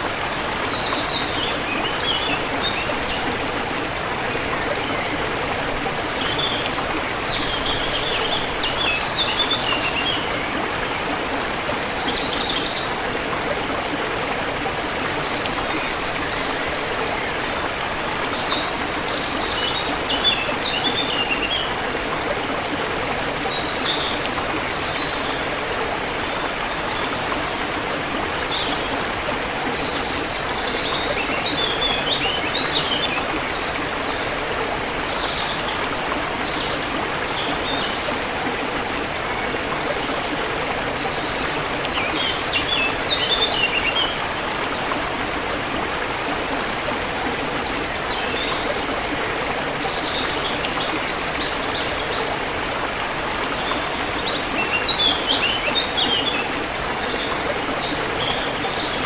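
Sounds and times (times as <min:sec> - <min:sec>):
stream running: 0:00.0 - 0:59.0.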